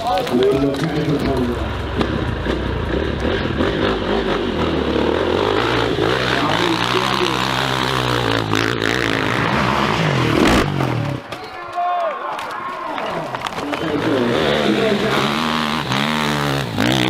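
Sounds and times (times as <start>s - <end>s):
dirt bike engine revving: 0.4s - 11.3s, 13.6s - 17.0s.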